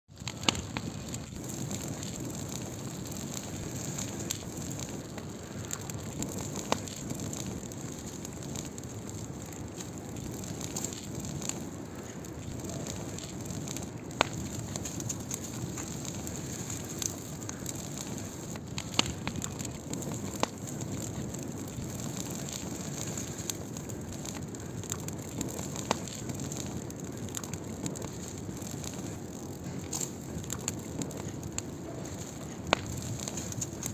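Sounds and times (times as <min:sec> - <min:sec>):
firewood crackling: 0:00.1 - 0:33.9.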